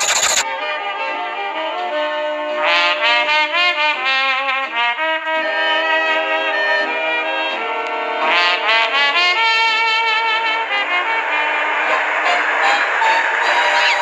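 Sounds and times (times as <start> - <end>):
brassy orchestral music: 0.4 - 14.0.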